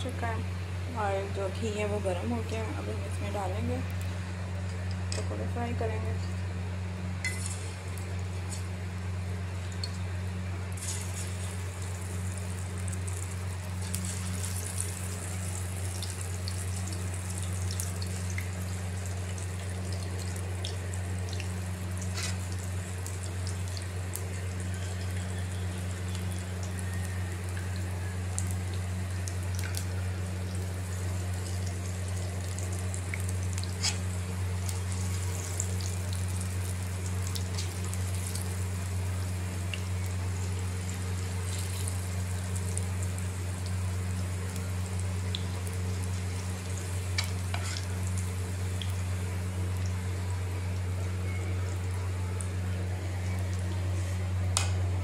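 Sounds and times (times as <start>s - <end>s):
food deep-frying with crackles: 0.0s - 55.0s
low hum: 0.0s - 55.0s.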